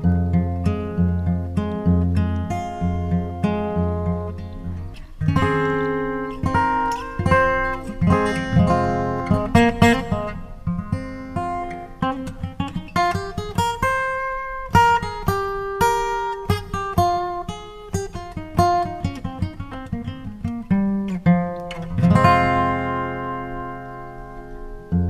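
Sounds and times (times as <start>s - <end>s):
acoustic guitar picking melody: 0.0s - 25.0s.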